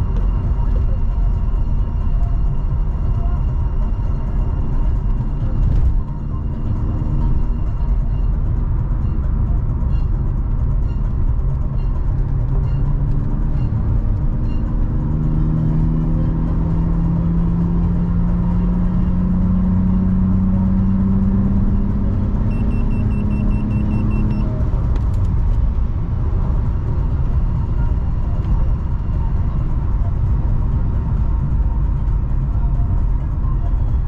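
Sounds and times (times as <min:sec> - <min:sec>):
car engine accelerating: 0:00.0 - 0:34.0
road rumble inside car: 0:00.0 - 0:34.0.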